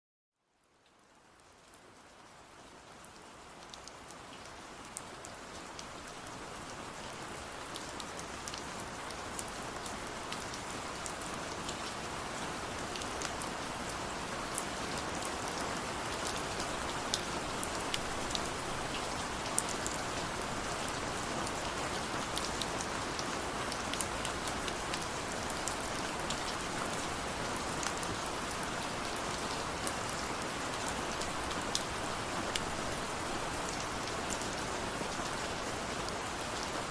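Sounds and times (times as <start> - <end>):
steady rain hissing: 0.5 - 36.9.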